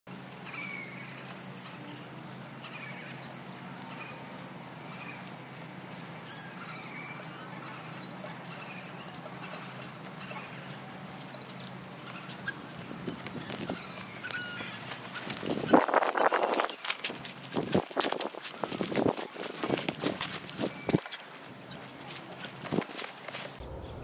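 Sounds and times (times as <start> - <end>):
steady outdoor hiss: 0.1 - 24.0.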